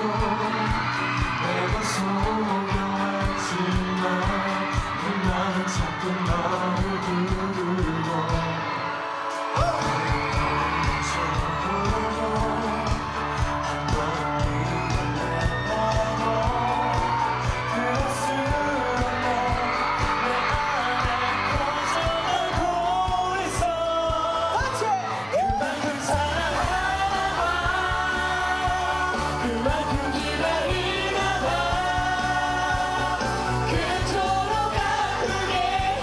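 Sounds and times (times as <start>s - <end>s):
steady drum beat: 0.0s - 8.5s, 9.5s - 24.8s, 25.5s - 36.0s
live pop band playing: 0.0s - 36.0s
man singing into microphone: 0.0s - 36.0s.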